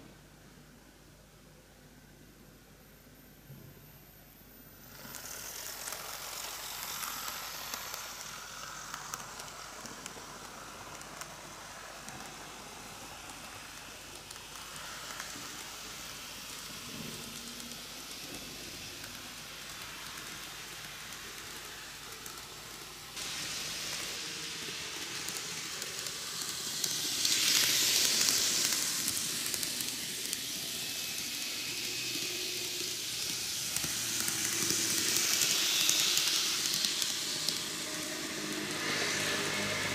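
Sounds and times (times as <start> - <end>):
model train wheels rolling on rails: 4.8 - 39.9
model train motor noise: 4.9 - 39.9.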